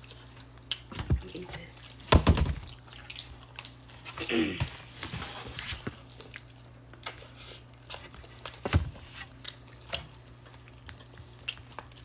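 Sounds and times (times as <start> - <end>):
wet chewing: 0.0 - 4.6, 5.8 - 12.0.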